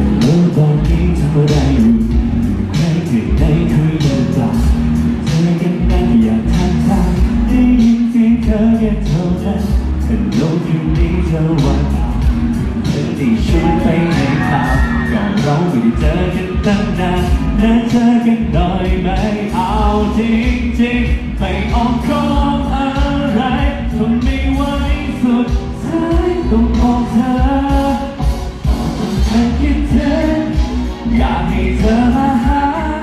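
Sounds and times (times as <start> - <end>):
man singing: 0.0 - 28.3, 29.1 - 33.0
live band playing: 0.0 - 33.0.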